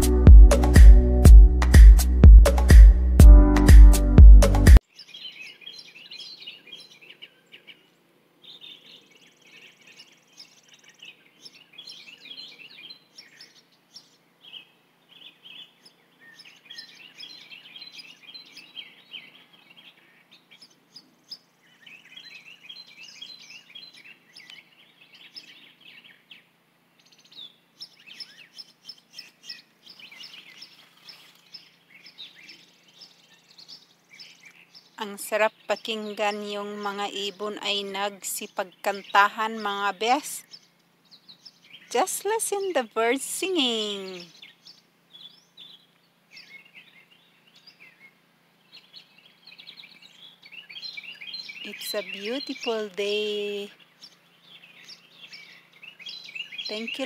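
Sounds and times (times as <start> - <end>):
songbirds chirping and trilling: 4.8 - 57.0.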